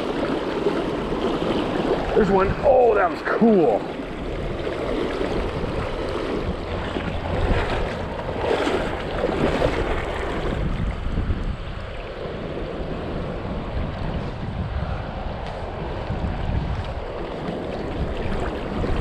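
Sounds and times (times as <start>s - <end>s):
creek rushing over rocks: 0.0s - 19.0s
wind buffeting microphone: 0.0s - 19.0s.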